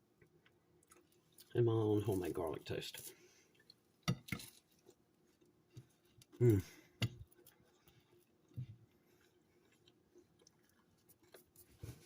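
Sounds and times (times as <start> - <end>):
faint chewing: 0.1 - 2.2, 3.0 - 12.0.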